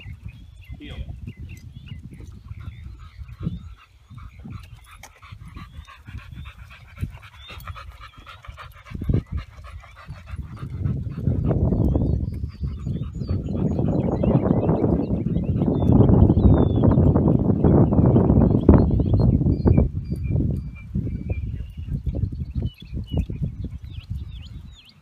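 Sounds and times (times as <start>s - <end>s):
dogs panting: 0.0s - 25.0s.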